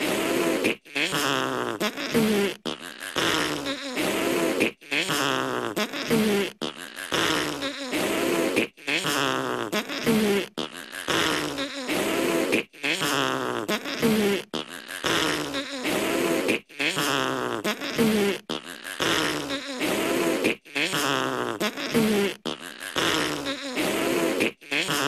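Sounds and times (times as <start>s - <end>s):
raspberries blown into hands: 0.0s - 25.0s.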